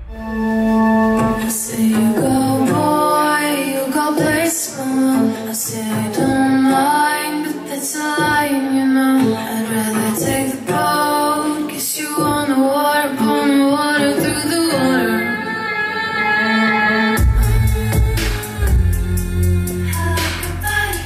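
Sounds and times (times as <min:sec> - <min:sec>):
woman singing long held notes: 0:01.1 - 0:21.0.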